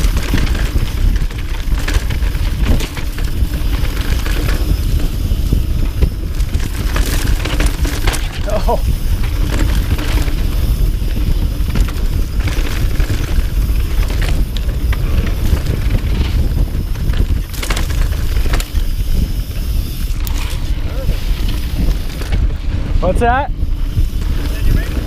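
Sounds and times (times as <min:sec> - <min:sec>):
bike clicking and rattling: 0:00.0 - 0:25.0
tyres rumbling on dirt: 0:00.0 - 0:25.0.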